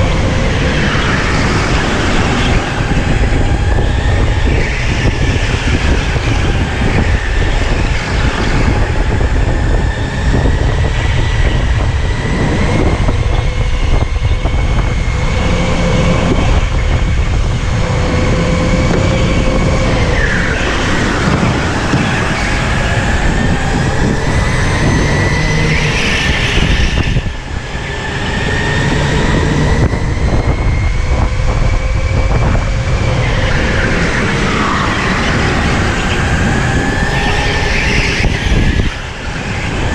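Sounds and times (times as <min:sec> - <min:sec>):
electric go-kart motor whining: 0:00.0 - 0:39.9
loud low rumble: 0:00.0 - 0:39.9.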